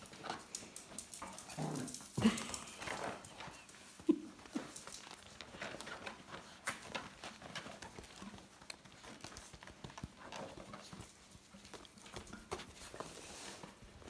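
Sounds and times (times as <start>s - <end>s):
puppy claws scratching: 0.0s - 14.0s.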